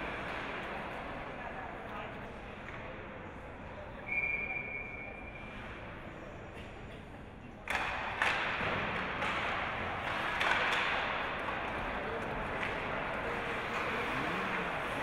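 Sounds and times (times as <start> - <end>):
ice hockey rink noise: 0.0 - 15.0.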